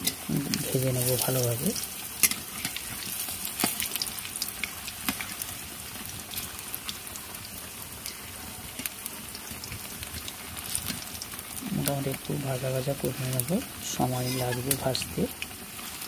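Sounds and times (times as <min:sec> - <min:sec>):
deep-frying sizzle: 0:00.0 - 0:16.0
oil crackles and pops: 0:00.0 - 0:16.0.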